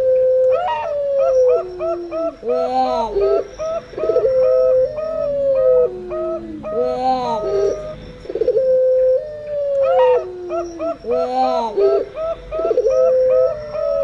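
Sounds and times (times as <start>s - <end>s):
doves cooing: 0.0s - 14.0s.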